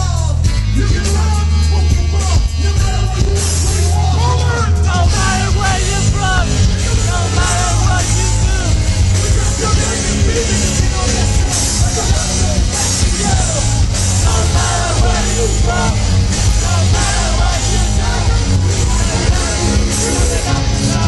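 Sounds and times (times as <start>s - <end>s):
heavy bass line: 0.0s - 21.0s
live rock band: 0.0s - 21.0s
person singing: 0.0s - 21.0s.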